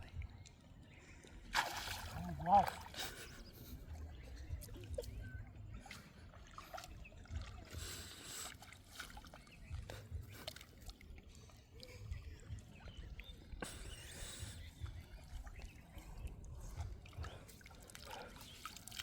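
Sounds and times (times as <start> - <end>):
water sloshing and trickling: 0.0 - 19.0.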